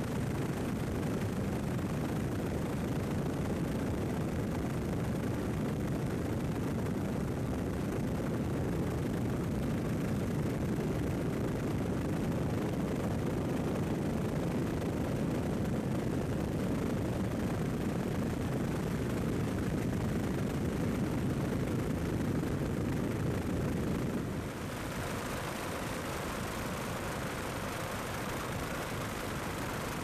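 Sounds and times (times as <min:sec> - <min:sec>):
helicopter engine and rotor rumble: 0:00.0 - 0:30.0.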